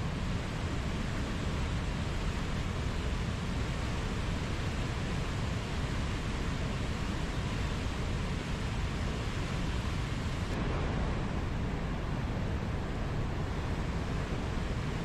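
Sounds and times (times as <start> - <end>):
rushing falling water: 0.0 - 15.0.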